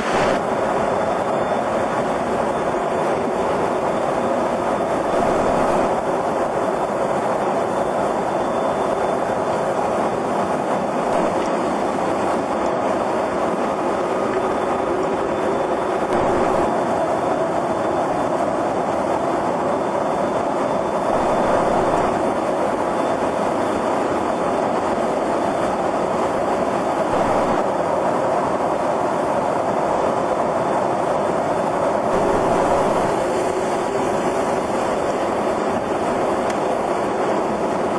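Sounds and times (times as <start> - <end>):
aircraft engine and airflow roar: 0.0 - 37.9.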